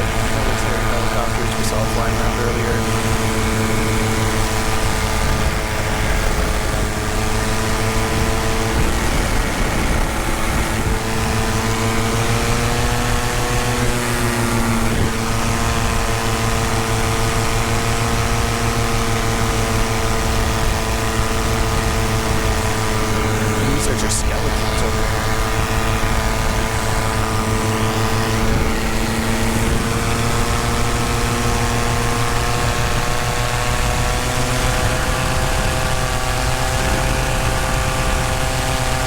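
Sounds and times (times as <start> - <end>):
paramotor engine and propeller: 0.0 - 39.0.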